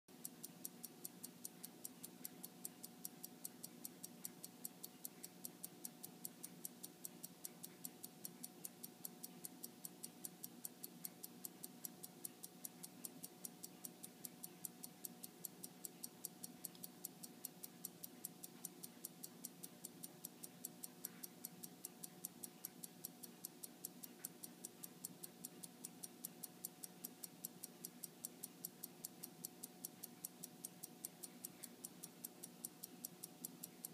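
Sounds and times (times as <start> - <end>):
watch ticking: 0.1 - 33.9.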